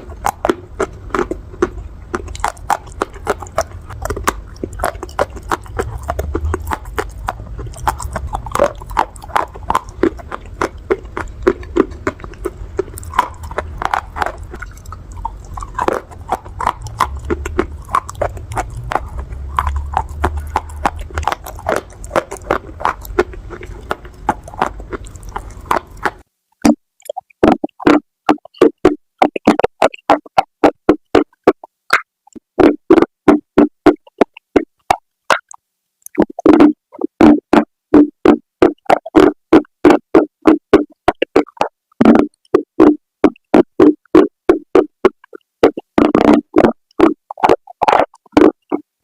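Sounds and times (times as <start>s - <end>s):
chewing crunchy clay: 0.0s - 48.9s.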